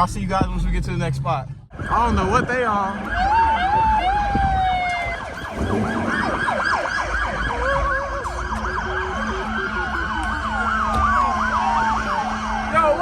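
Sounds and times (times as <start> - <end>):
pulsing low tone: 0.0 - 12.7
low rumble of engines: 0.0 - 13.0
police sirens wailing: 0.0 - 13.0
police sirens yelping: 1.2 - 13.0.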